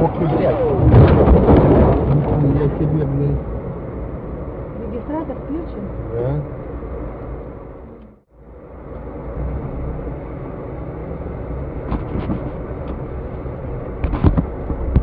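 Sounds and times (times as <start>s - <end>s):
car engine and traffic rumble: 0.0s - 15.0s.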